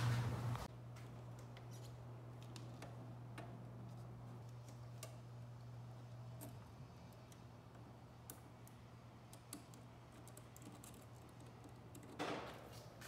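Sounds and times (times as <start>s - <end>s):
low steady hum: 0.0s - 12.7s.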